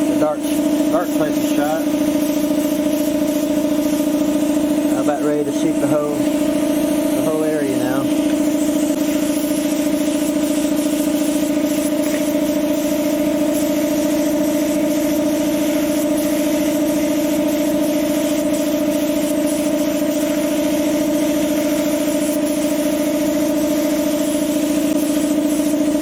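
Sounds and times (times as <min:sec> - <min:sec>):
air hiss: 0:00.0 - 0:26.0
steady motor hum: 0:00.0 - 0:26.0.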